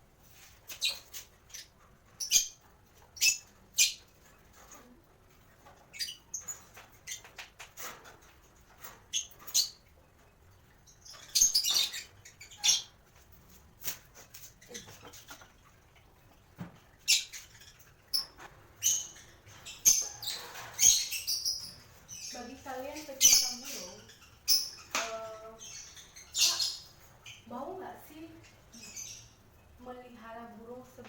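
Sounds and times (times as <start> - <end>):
lovebirds chirping: 0.2 - 31.0.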